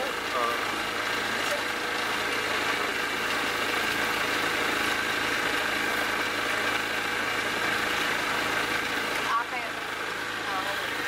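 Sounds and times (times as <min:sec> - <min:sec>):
motorboat engine running: 0:00.0 - 0:11.0.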